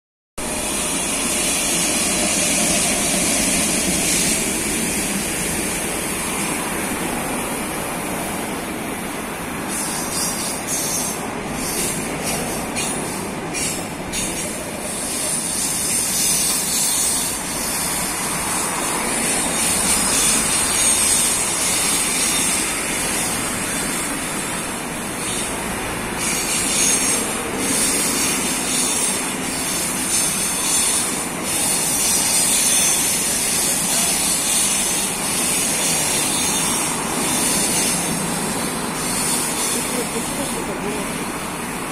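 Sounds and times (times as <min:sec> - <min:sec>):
passenger train passing: 0:00.4 - 0:41.9
wheels rumbling on rails: 0:00.4 - 0:41.9.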